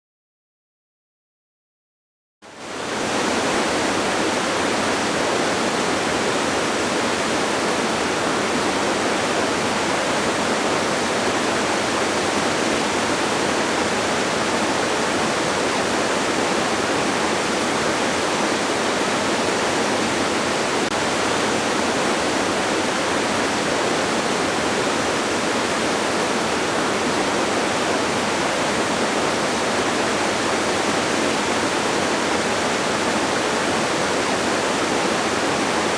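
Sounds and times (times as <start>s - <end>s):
waterfall rushing: 2.6s - 35.9s.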